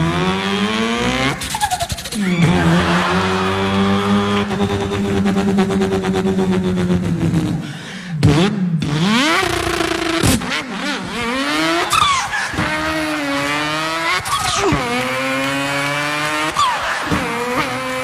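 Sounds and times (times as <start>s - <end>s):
man imitating car engine: 0.0s - 18.0s.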